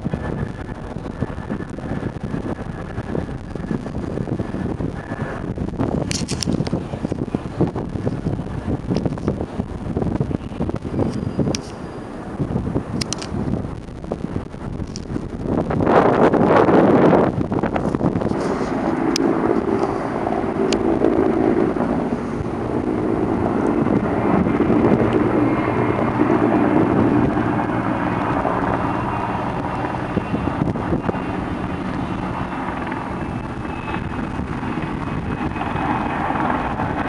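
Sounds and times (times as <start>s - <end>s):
road traffic noise: 0.0s - 36.9s
distant helicopter: 0.0s - 37.0s
wind rumbling on microphone: 0.0s - 37.0s.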